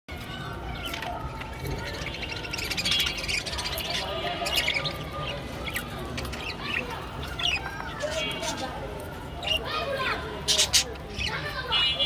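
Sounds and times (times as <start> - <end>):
budgerigars chirping and warbling: 0.7 - 8.8, 9.4 - 9.7, 10.4 - 11.9.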